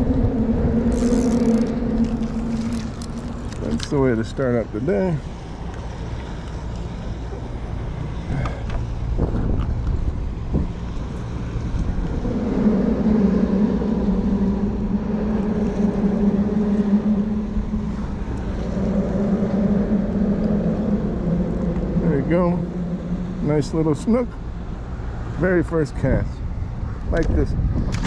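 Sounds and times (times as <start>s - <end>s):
boat engine humming: 0.0s - 27.3s
wind rumble on microphone: 0.0s - 28.0s.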